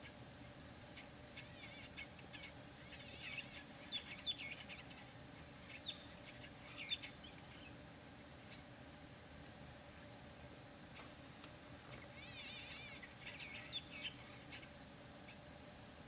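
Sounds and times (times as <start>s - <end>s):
birds chirping: 0.0s - 8.9s, 10.8s - 15.6s.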